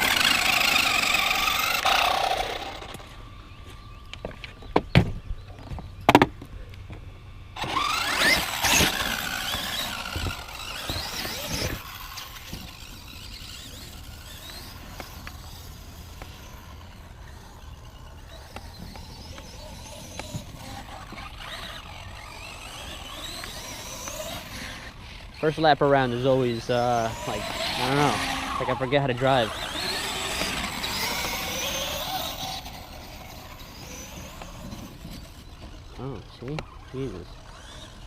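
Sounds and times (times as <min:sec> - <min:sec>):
electric motor whining: 0:00.0 - 0:38.0.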